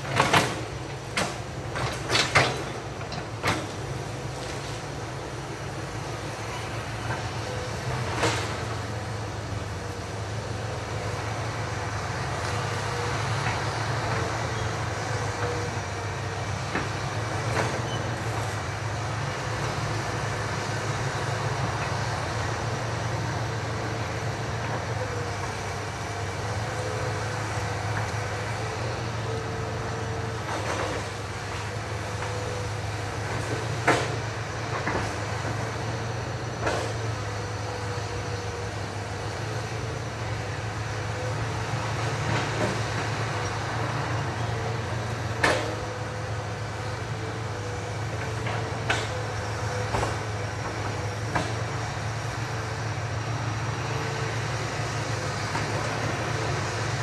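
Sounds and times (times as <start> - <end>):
distant diesel engine running: 0.0 - 57.0.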